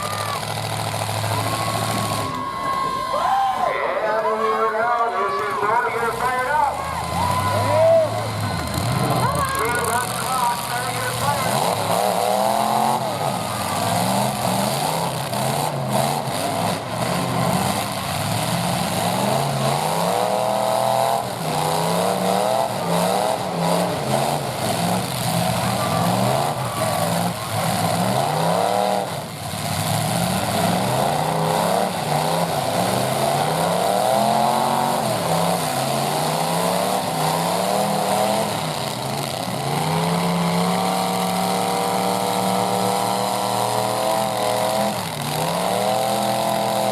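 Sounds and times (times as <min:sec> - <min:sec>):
truck engines revving: 0:00.0 - 0:46.9.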